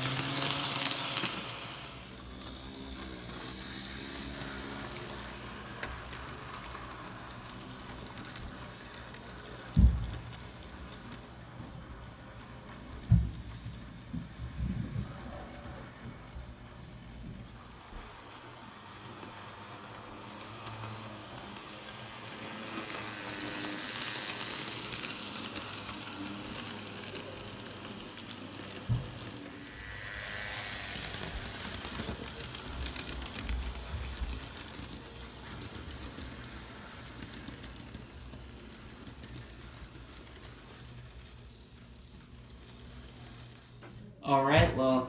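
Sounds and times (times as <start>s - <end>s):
model train wheels rattling: 0.0s - 43.9s.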